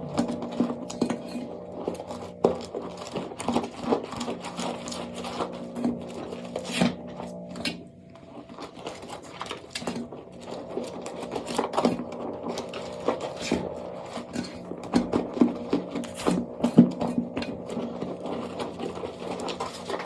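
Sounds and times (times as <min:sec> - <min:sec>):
dry soap crunching and scraping: 0:00.0 - 0:20.0
steady low hum: 0:00.0 - 0:20.0.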